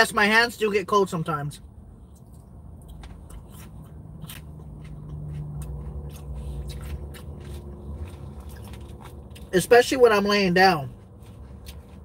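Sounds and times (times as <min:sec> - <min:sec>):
low steady hum: 0:00.0 - 0:12.0
chewing crunchy lettuce: 0:02.1 - 0:12.0.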